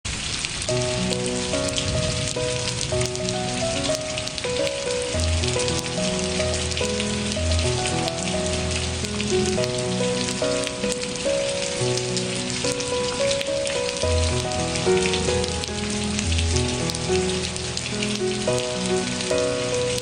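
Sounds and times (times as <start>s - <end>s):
rain falling: 0.0s - 20.0s
slow gentle music: 0.6s - 20.0s.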